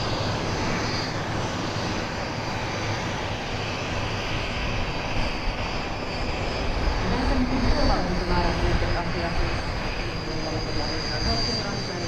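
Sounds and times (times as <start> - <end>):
jet engines rumbling with whine: 0.0 - 12.0.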